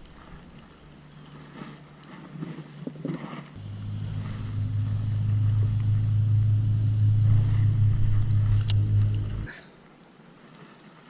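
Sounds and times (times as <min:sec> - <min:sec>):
engine low hum: 0:00.0 - 0:09.5.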